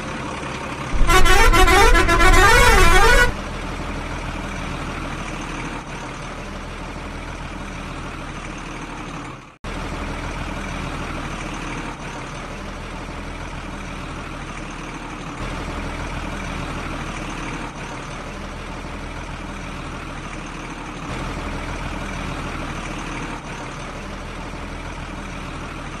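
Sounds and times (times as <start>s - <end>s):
heavy truck engine idling: 0.0s - 26.0s.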